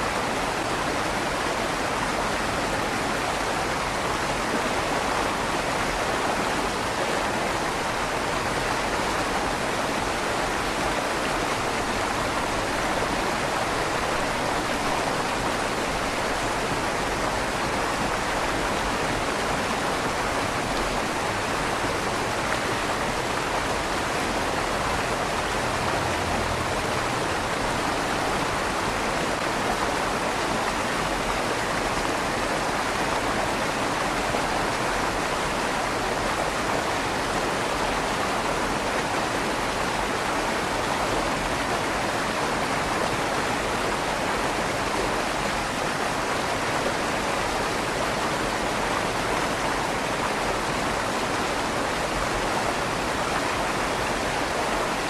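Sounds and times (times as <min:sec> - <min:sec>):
river water rushing under bridge: 0:00.0 - 0:55.0.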